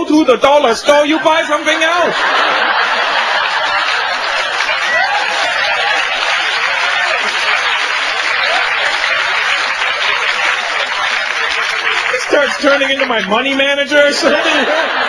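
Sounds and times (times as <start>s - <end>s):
audience laughter: 0.5s - 15.0s
audience applauding: 0.9s - 15.0s.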